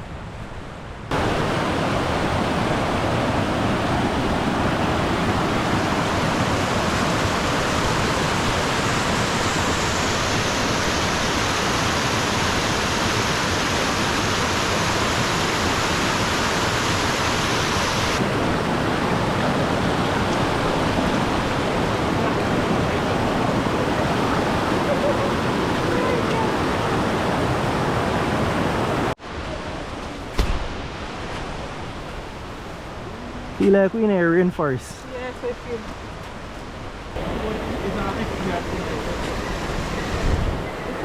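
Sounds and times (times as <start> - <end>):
rushing river water: 0.0 - 41.0.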